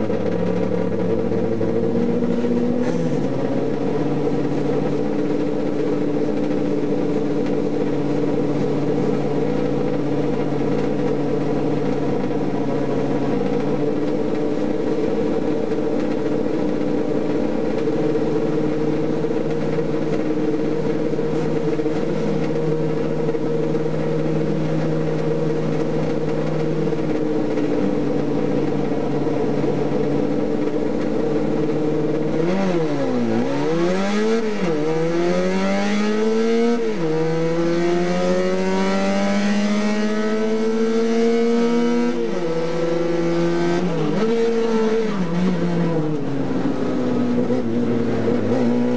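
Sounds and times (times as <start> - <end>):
race car engine from cockpit: 0.0 - 48.9.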